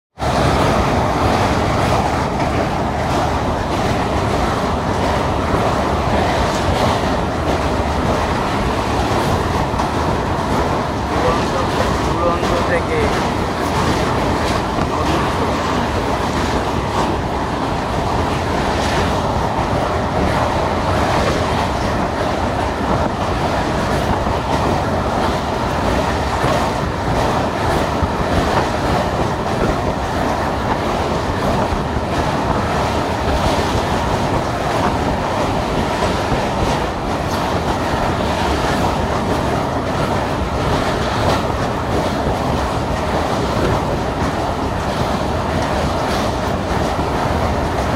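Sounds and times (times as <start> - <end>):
train rumble on bridge: 0.1 - 47.9
wheels clattering on rails: 0.2 - 47.9.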